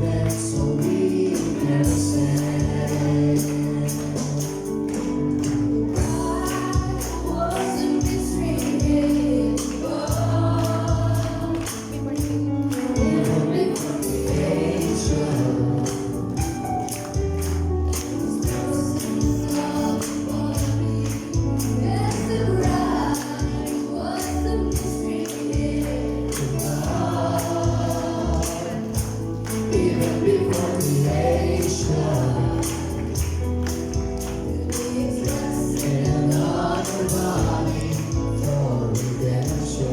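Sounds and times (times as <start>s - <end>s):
choir singing gospel music: 0.0s - 39.9s
tambourine beat: 0.0s - 39.9s.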